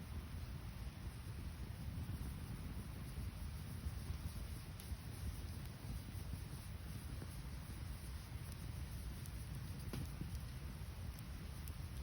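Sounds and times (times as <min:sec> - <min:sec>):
campfire burning: 0:00.0 - 0:12.0.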